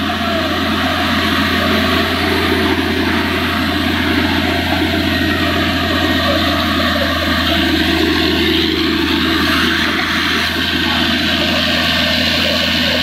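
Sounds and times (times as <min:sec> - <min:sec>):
drilling rig engine droning: 0:00.0 - 0:13.0.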